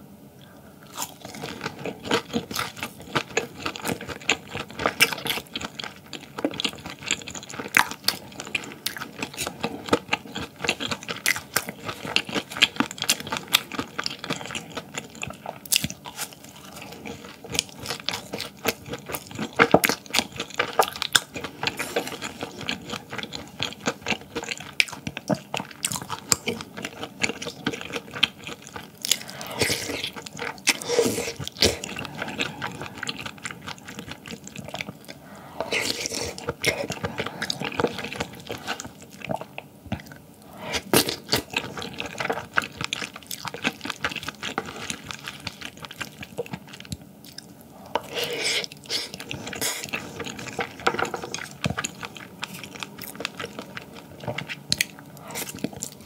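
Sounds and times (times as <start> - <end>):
chewing and crunching food: 0.4 - 56.0.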